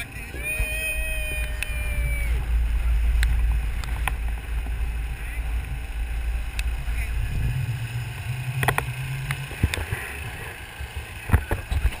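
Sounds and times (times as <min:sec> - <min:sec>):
golf cart rumbling: 0:00.0 - 0:12.0
low hum: 0:00.0 - 0:12.0.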